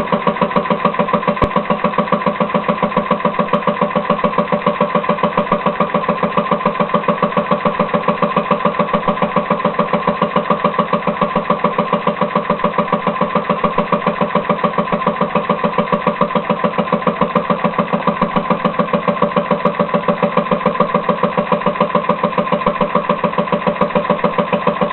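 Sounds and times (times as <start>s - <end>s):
compressed-air motor puffing: 0.0s - 24.9s.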